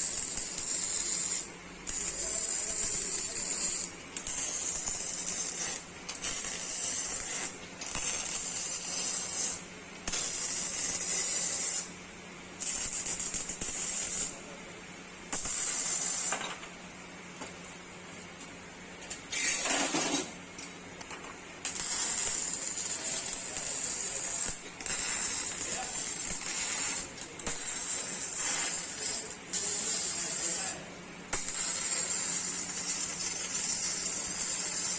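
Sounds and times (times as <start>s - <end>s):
welding arc frying and hissing: 0.0s - 12.0s, 12.6s - 14.4s, 15.3s - 16.5s, 21.6s - 34.9s.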